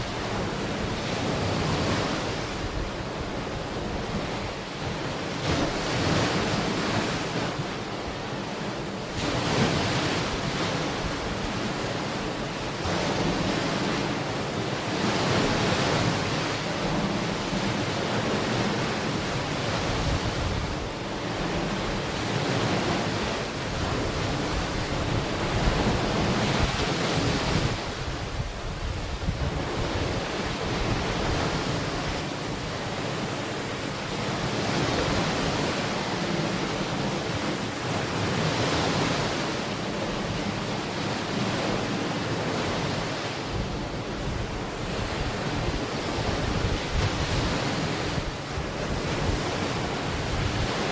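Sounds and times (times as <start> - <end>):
ocean waves breaking on beach: 0.0 - 50.9
wind on microphone: 0.0 - 50.9.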